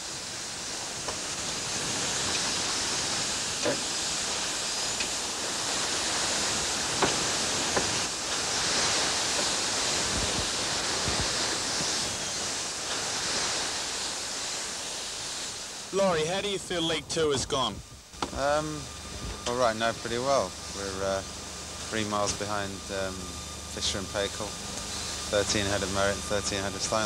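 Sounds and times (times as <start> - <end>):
water rushing along hull: 0.0 - 27.0.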